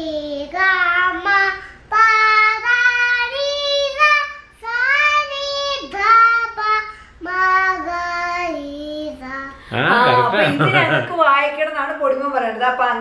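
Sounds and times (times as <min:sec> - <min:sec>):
child singing a scale: 0:00.0 - 0:10.7.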